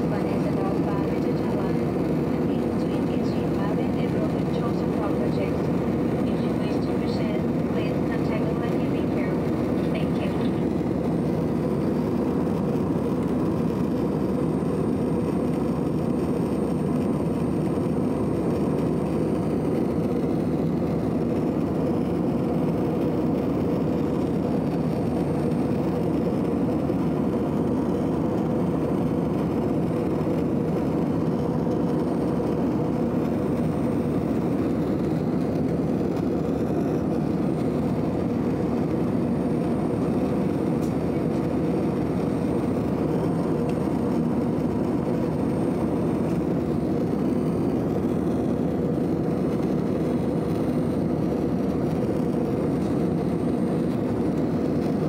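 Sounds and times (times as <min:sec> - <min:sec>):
jet airliner cabin noise: 0:00.0 - 0:55.0.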